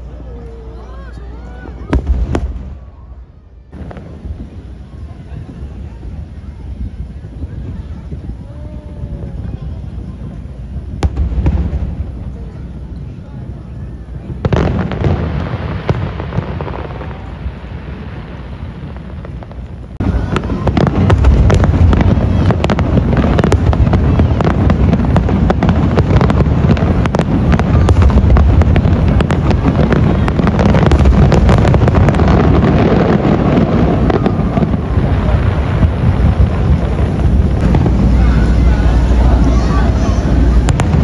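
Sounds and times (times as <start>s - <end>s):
sharp fireworks cracks: 0.0s - 41.0s
fireworks booming: 1.5s - 41.0s.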